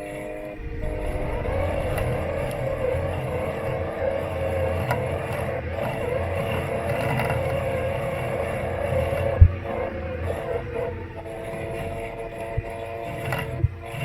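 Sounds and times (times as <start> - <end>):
robot lawn mower motors: 0.6 - 14.0.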